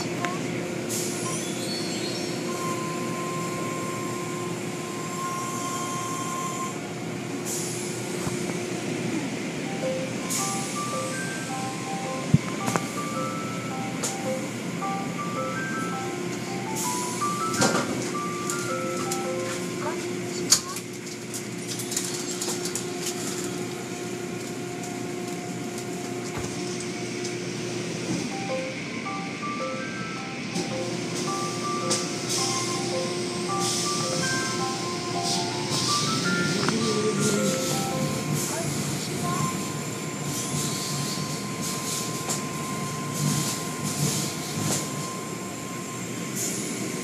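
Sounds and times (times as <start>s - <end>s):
steady machine hum: 0.0s - 47.0s
steady high whine: 2.3s - 20.6s, 22.0s - 47.0s.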